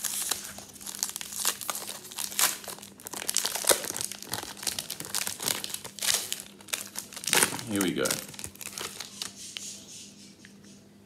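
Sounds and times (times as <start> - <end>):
wrappers torn and crinkled: 0.0 - 9.4.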